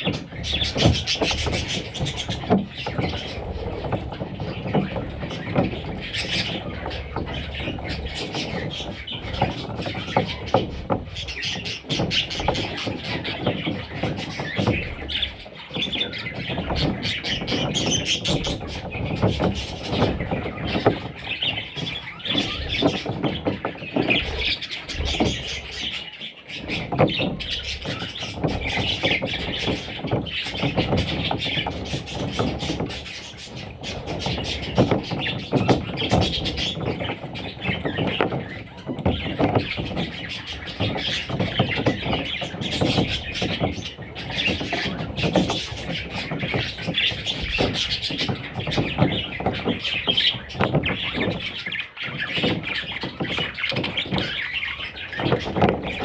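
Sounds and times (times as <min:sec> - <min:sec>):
bird chicks chirping and squealing: 0:00.0 - 0:56.0
clicks and scratches: 0:00.0 - 0:56.0.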